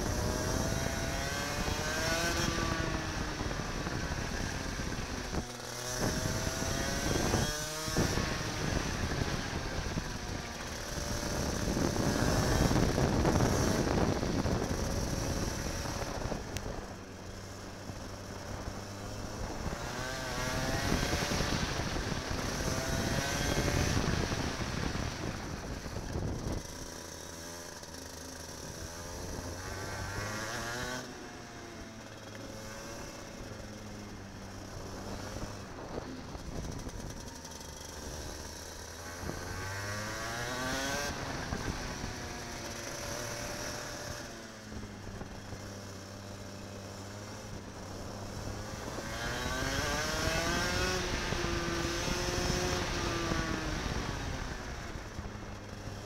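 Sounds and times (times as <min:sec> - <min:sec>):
kart engine revving: 0:00.0 - 0:56.0
wind and running noise: 0:00.0 - 0:56.0.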